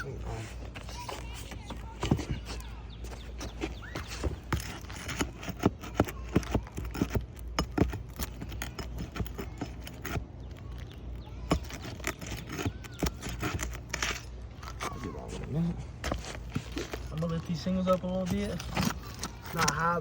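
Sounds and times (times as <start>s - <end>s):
tool prying nails from shingles: 0.9s - 20.0s.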